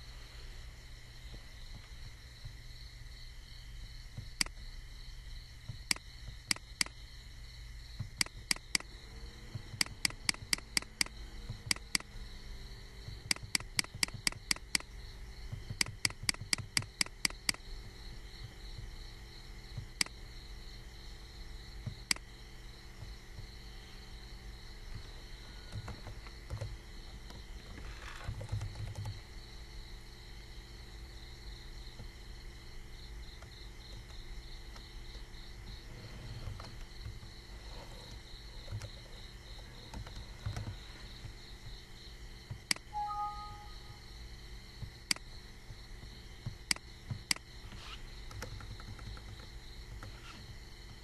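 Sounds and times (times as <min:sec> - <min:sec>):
faint hum and hiss: 0:00.0 - 0:51.0.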